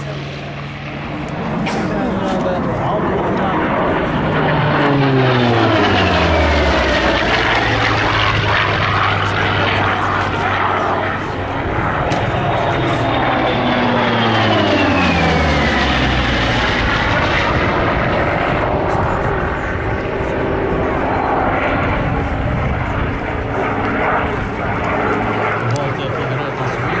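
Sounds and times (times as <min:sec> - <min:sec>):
propeller aircraft engine fly-by: 0:00.0 - 0:27.0.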